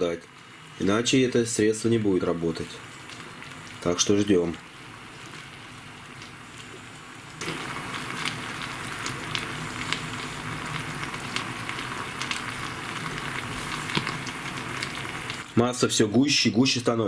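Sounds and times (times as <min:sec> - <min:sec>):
crackling pops: 0:00.0 - 0:15.7
sugar bubbling and sizzling: 0:00.0 - 0:17.0.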